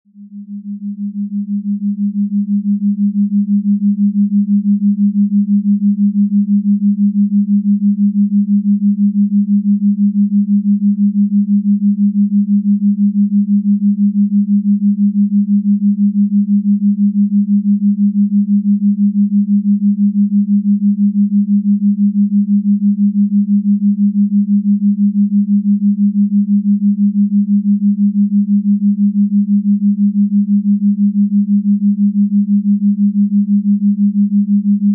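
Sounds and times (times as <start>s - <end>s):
low pulsing electronic tone: 0.1s - 34.9s.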